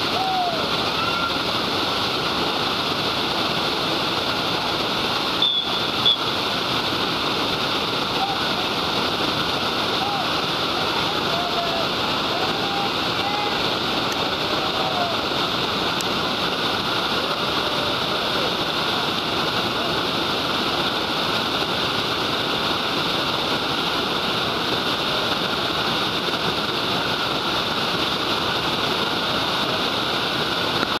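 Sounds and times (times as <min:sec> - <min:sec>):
river rapids roaring: 0:00.0 - 0:31.0.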